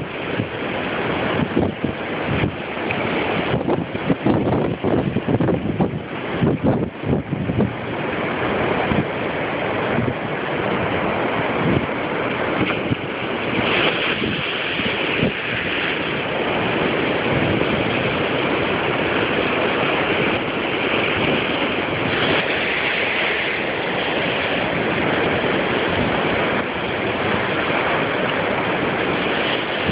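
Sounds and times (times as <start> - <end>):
surf crashing against rocks: 0.0 - 29.9
wind buffeting microphone: 0.0 - 29.9.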